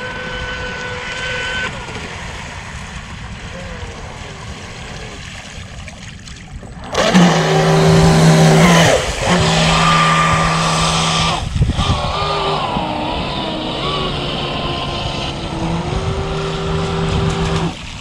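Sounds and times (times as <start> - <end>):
electric boat motor whine: 0.0 - 3.5, 6.8 - 18.0.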